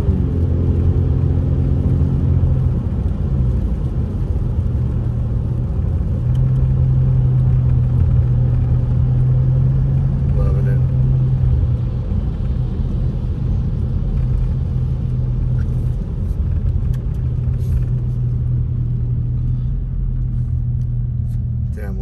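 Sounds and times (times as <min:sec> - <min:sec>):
car engine hum: 0:00.0 - 0:22.0
tyre noise on wet road: 0:00.0 - 0:22.0.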